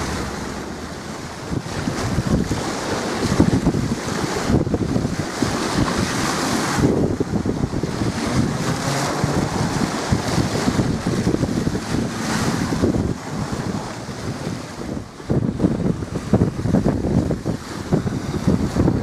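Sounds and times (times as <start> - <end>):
choppy water washing: 0.0 - 19.0
wind buffeting microphone: 0.0 - 19.0.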